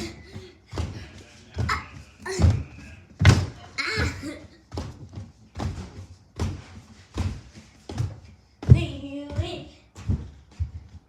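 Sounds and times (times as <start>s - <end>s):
bouncy ball thudding on floor: 1.6s - 10.8s.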